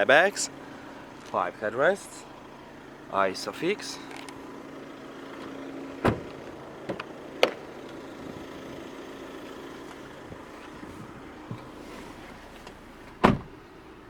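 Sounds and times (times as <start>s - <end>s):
low hum in car: 0.0s - 14.0s.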